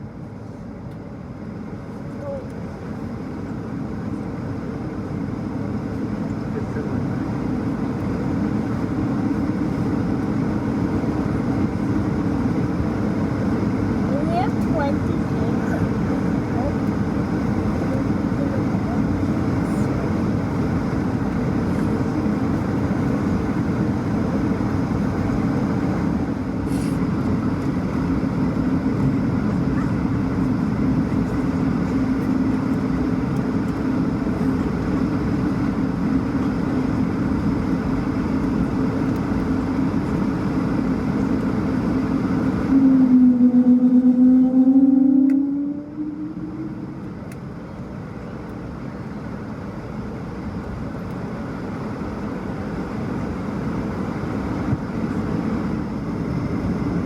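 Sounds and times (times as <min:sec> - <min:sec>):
aircraft cabin engine drone: 0:00.0 - 0:57.0.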